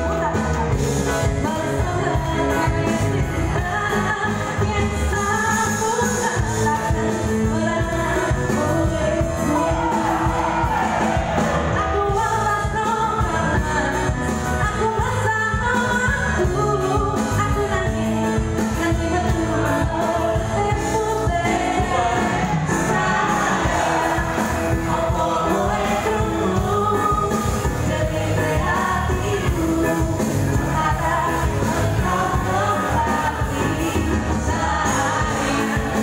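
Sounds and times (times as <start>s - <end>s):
woman singing pop song: 0.0s - 10.8s, 11.6s - 36.0s
live band playing: 0.0s - 36.0s.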